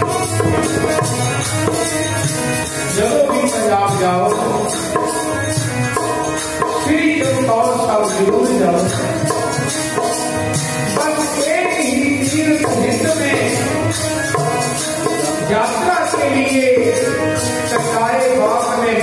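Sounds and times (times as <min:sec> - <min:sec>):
hand drum strokes: 0:00.0 - 0:19.0
harmonium chords: 0:00.0 - 0:19.0.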